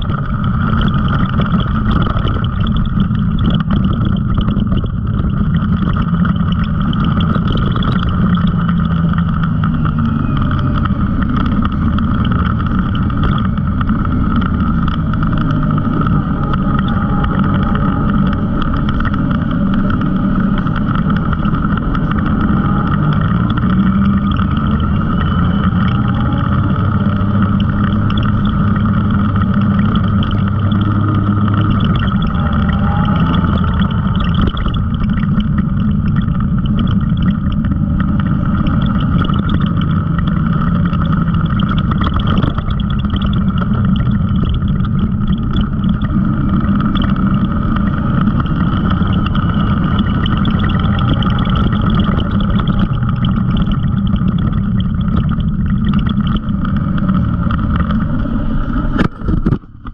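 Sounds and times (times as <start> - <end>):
tyre and chassis rattle: 0.0 - 59.9
utility vehicle engine revving: 0.0 - 59.9.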